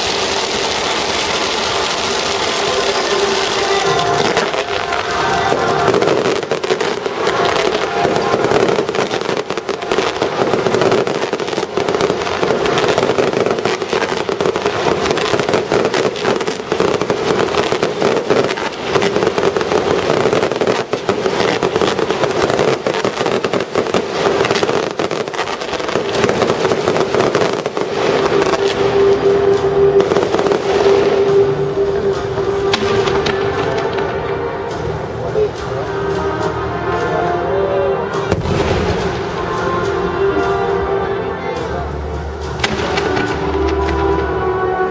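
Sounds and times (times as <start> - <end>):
fireworks bursts and crackling: 0.0 - 44.9.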